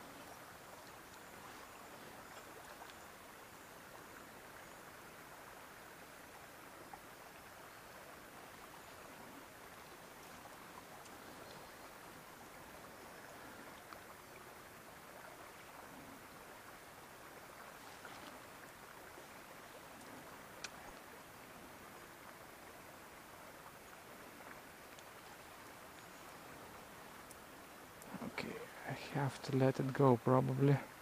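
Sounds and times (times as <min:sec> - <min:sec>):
river current over shallows: 0:00.0 - 0:31.0.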